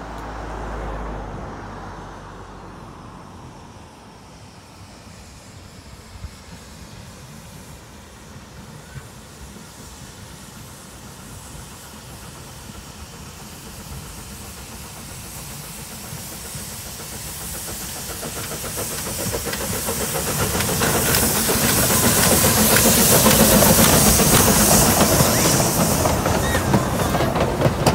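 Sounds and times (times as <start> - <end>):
steam locomotive passing: 0.0 - 27.9
hissing steam: 3.0 - 27.9.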